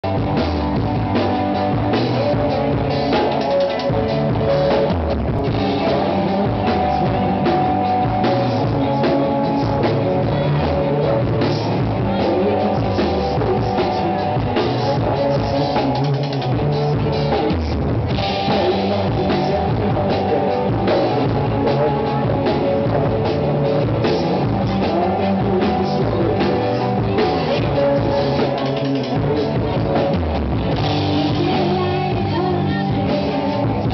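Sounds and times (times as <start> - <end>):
drum kit: 0.0 - 33.9
electric guitars: 0.0 - 33.9.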